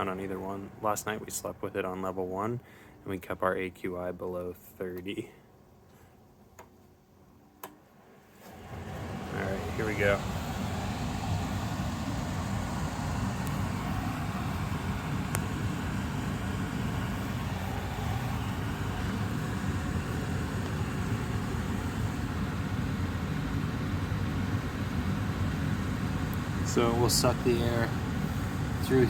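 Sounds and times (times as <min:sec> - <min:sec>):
air purifier fan running: 0:00.0 - 0:05.4, 0:07.4 - 0:29.0.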